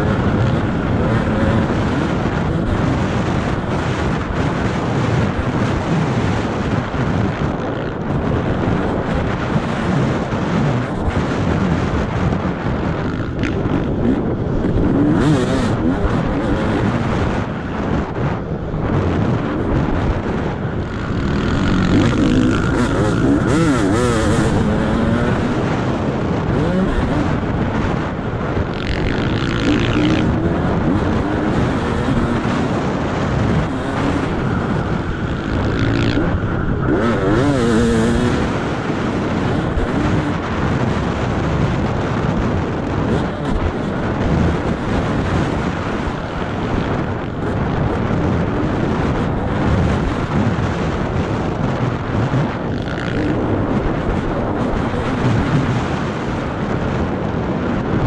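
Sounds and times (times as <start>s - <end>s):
dirt bike engine revving: 0.0s - 58.0s
steady rushing noise: 0.0s - 58.0s.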